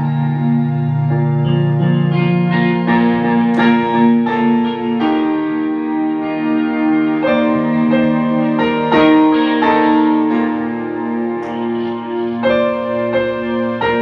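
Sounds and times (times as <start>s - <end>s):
electric guitar: 0.0s - 14.0s
electric piano chords: 0.0s - 14.0s.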